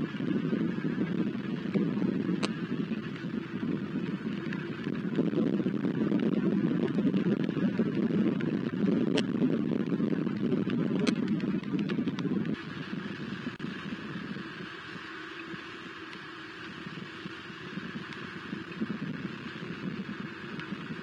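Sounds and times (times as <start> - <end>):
steady rain: 0.0 - 21.0
wind noise on microphone: 0.0 - 21.0.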